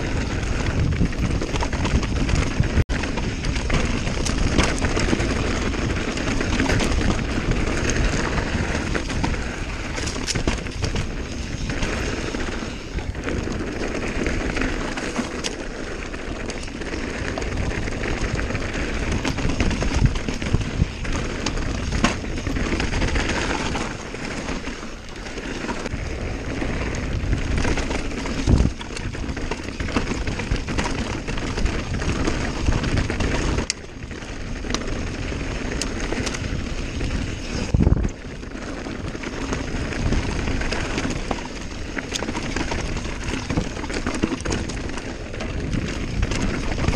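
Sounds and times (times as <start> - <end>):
wind on microphone: 0.0 - 13.9, 17.4 - 33.7, 34.4 - 46.9
bike rattling and knocking: 0.0 - 46.9
tyres rushing on dirt: 0.0 - 46.9.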